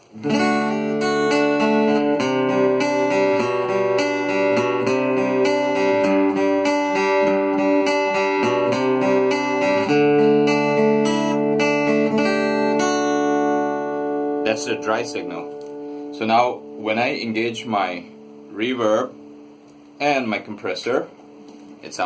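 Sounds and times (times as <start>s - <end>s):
acoustic guitar chords picked: 0.0s - 22.0s.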